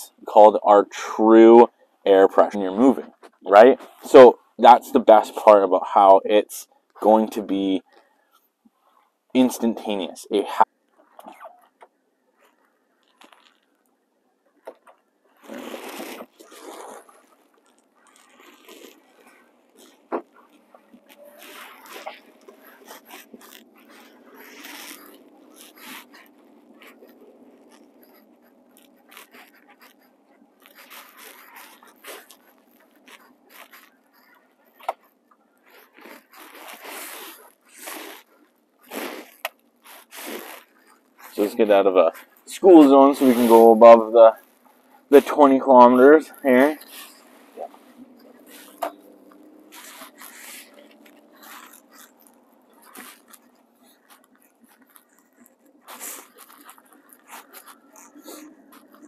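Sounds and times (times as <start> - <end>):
fabric rustling on microphone: 7.8 - 59.0.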